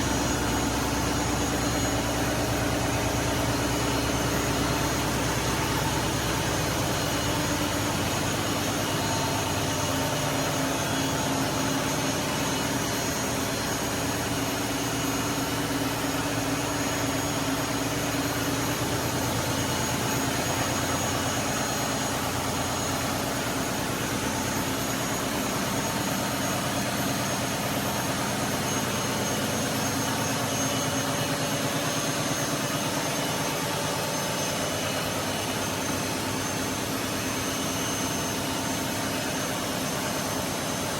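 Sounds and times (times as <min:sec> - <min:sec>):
diesel generator engine droning: 0:00.0 - 0:40.9.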